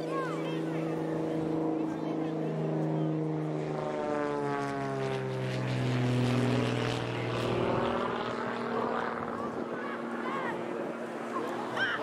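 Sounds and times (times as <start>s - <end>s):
propeller aircraft flying overhead: 0.0s - 12.0s.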